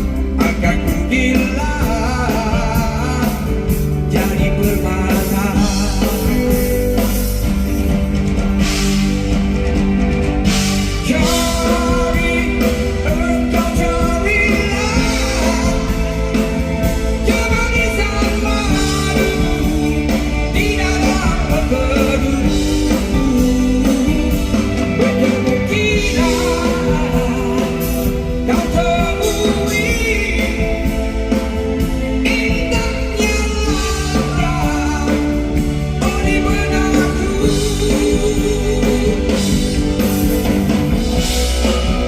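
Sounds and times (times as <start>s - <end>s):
man singing lead vocal: 0.0s - 7.7s, 10.5s - 42.0s
rock band playing: 0.0s - 42.0s.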